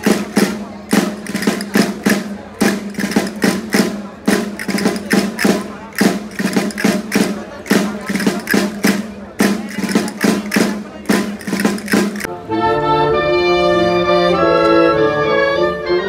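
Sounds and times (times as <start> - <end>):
folk dance music: 0.0 - 13.6.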